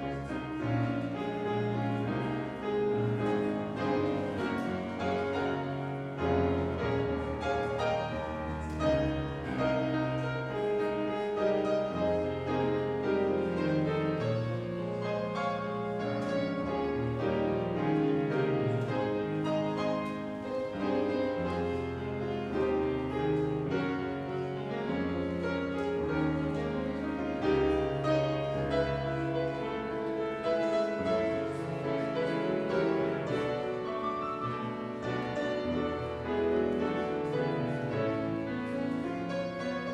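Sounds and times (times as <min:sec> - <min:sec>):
classical piano music: 0:00.0 - 0:39.9.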